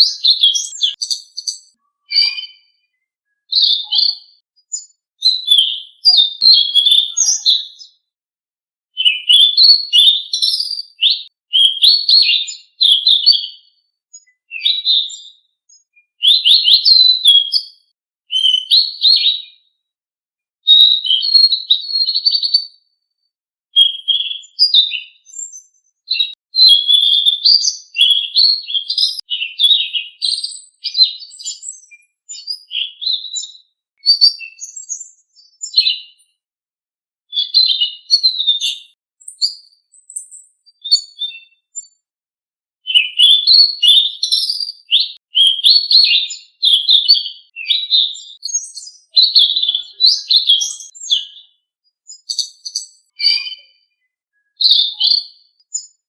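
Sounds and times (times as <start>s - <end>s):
songbird chirps and whistles: 0.0s - 8.1s, 9.0s - 19.7s, 20.7s - 23.0s, 23.8s - 36.3s, 37.3s - 42.0s, 42.8s - 56.0s.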